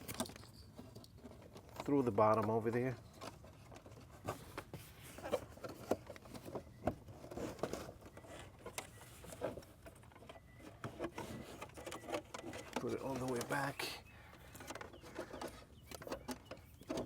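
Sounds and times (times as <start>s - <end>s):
cable clicks and rustles: 0.0s - 17.0s.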